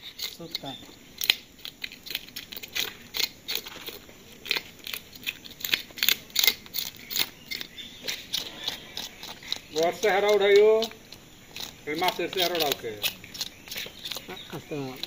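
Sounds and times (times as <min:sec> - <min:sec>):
knife scraping fish scales: 0:00.0 - 0:15.0.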